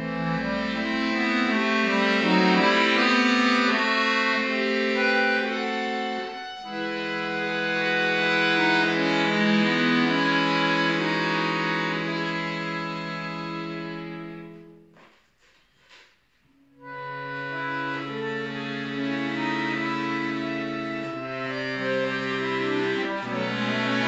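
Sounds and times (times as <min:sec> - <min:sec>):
accordion chords and melody: 0:00.0 - 0:15.0, 0:16.6 - 0:24.0.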